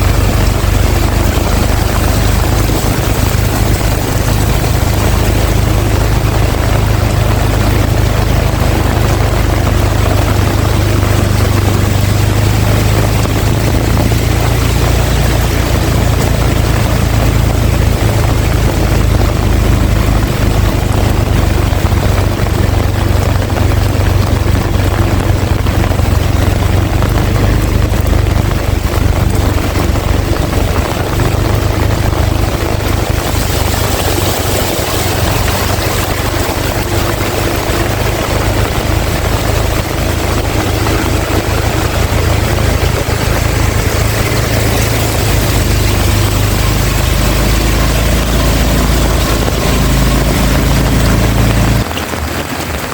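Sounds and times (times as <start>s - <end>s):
heavy rain pouring: 0.0s - 52.9s
wind buffeting microphone: 0.0s - 52.9s.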